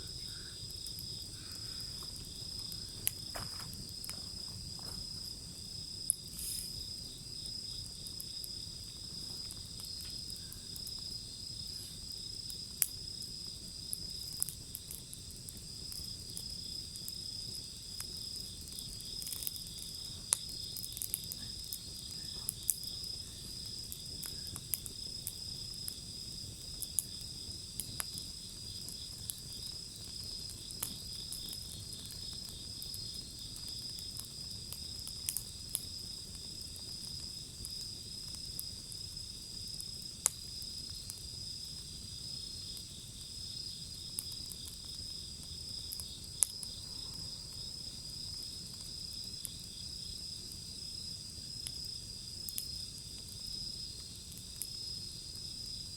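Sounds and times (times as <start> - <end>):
bonfire crackling and popping: 0.0 - 55.9
insects trilling: 0.0 - 55.9.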